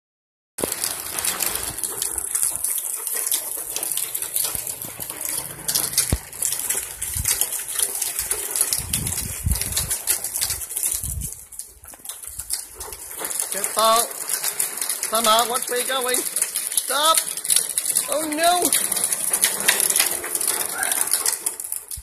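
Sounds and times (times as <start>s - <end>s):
plastic wheels rattling on concrete: 0.6s - 22.0s.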